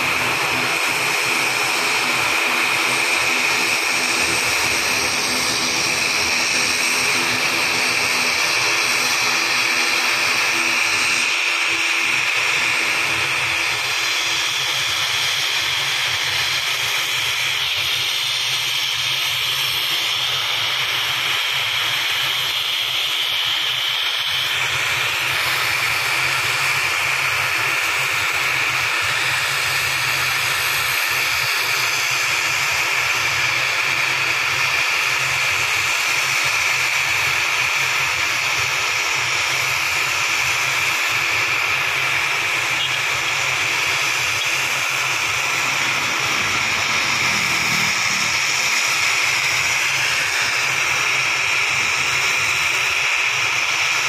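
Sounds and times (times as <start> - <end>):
turboprop engines running: 0.0 - 54.0.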